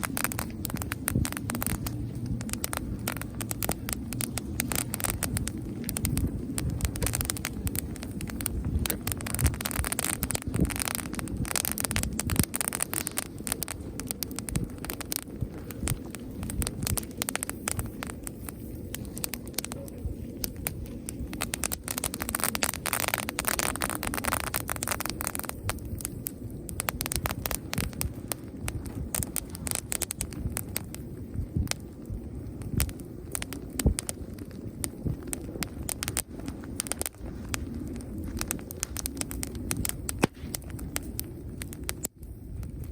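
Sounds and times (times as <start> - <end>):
campfire crackling and popping: 0.0 - 42.9
fire low rumble: 0.0 - 42.9.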